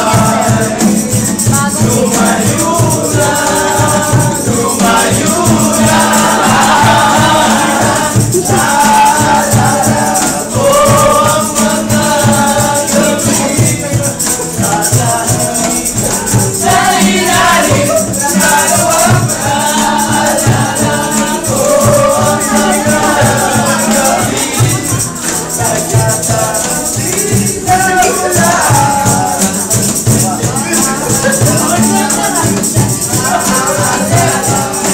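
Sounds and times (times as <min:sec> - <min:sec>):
cajon beat: 0:00.0 - 0:34.9
men singing together: 0:00.0 - 0:34.9
strummed acoustic guitars: 0:00.0 - 0:34.9.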